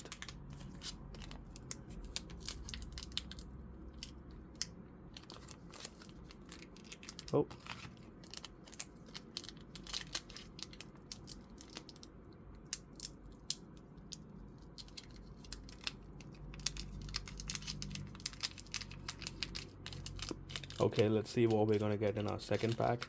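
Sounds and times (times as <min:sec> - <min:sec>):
trading cards being handled: 0:00.0 - 0:11.9, 0:14.1 - 0:23.0
foil wrappers crinkling: 0:00.0 - 0:12.1, 0:14.6 - 0:23.0.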